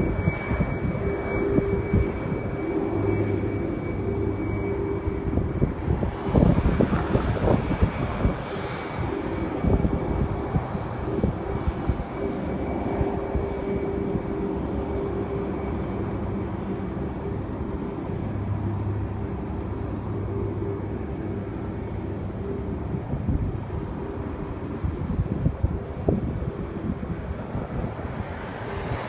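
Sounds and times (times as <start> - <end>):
jet engines whining and rumbling: 0.0 - 29.0
wind buffeting microphone: 0.0 - 29.0.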